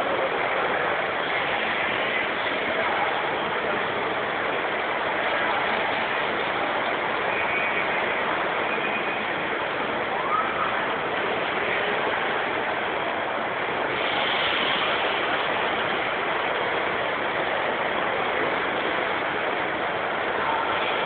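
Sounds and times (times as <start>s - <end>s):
busy exhibition hall din: 0.0s - 21.0s.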